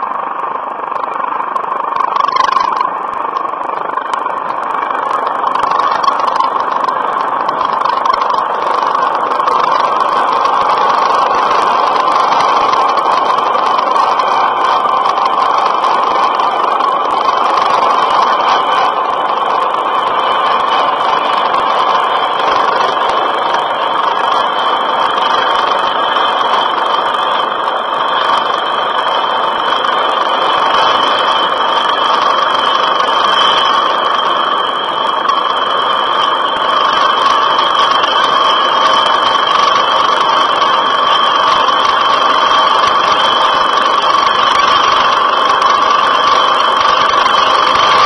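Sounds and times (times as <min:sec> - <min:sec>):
helicopter engine and rotor drone: 0:00.0 - 0:48.0.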